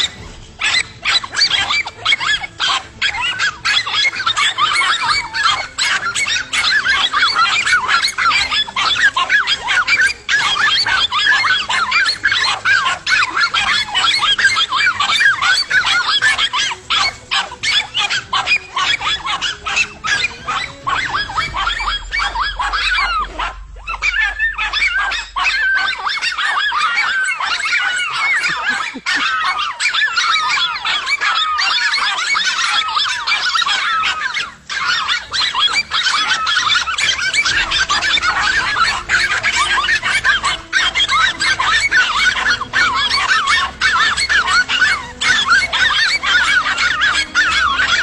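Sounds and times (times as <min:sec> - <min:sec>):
dogs barking and yelping: 0:00.0 - 0:48.0.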